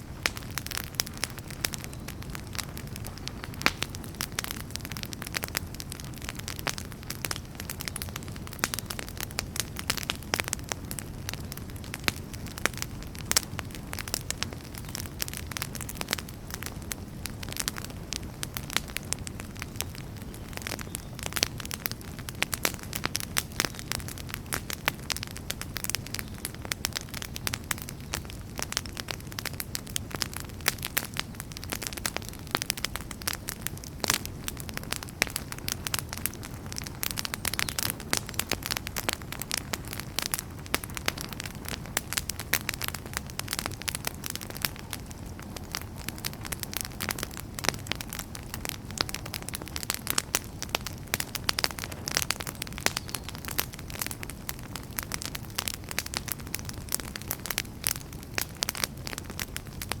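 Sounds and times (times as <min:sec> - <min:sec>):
logs crackling and popping: 0:00.0 - 1:00.0
low rumble of flames: 0:00.0 - 1:00.0.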